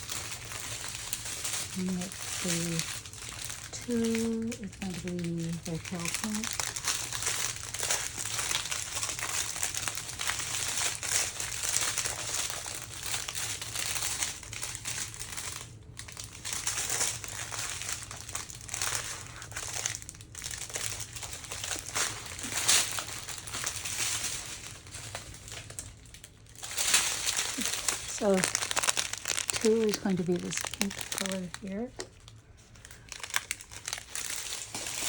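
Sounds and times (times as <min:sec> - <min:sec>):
plastic crinkling and rustling: 0:00.0 - 0:35.0.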